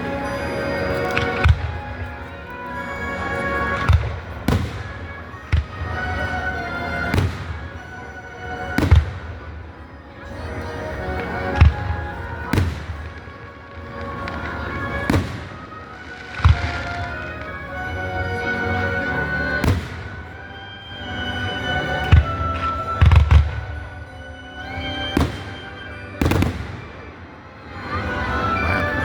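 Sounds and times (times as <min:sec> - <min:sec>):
music playing: 0:00.0 - 0:29.0.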